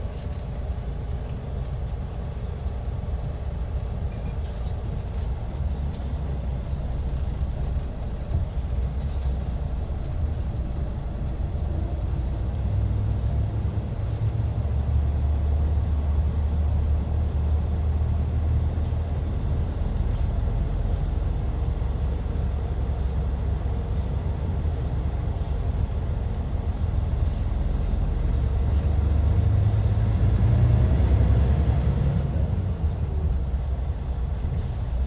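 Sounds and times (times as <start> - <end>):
diesel engine low rumble: 0.0 - 35.0.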